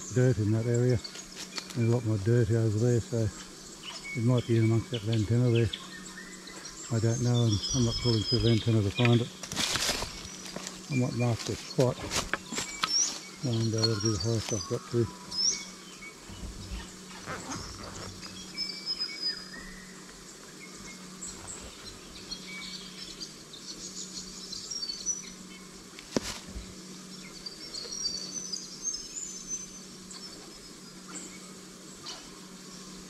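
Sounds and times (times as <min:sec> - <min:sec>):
birds chirping: 0:00.0 - 0:33.0
faint low hum: 0:00.0 - 0:33.0.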